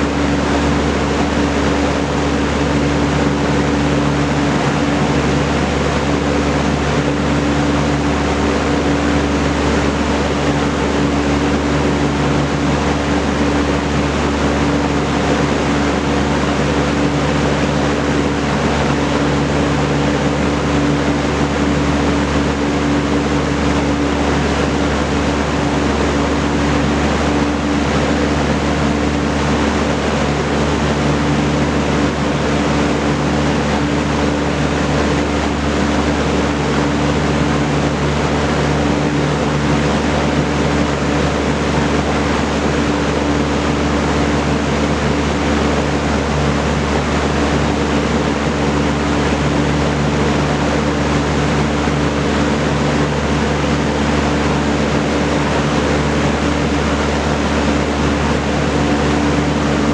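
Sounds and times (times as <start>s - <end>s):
box fan air rush: 0.0s - 59.9s
low motor hum: 0.0s - 59.9s.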